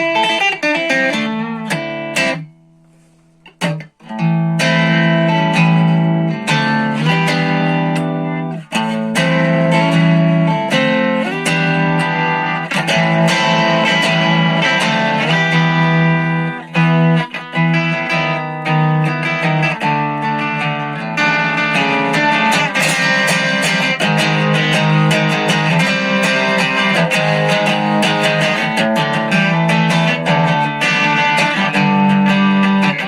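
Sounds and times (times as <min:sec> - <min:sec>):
electric guitar playing: 0:00.0 - 0:33.0.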